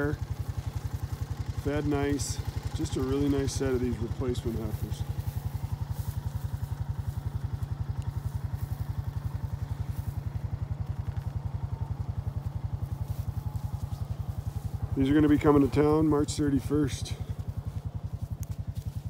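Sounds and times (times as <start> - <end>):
quad engine idling: 0.0 - 19.0.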